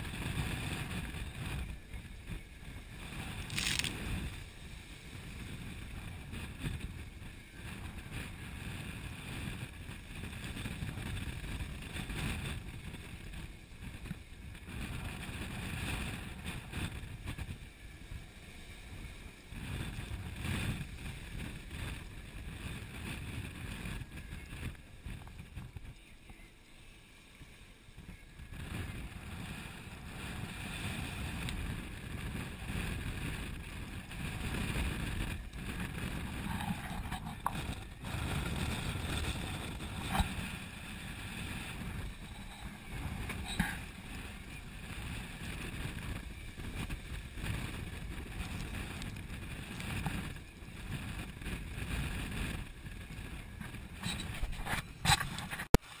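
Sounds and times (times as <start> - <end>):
wind buffeting microphone: 0.0 - 55.8.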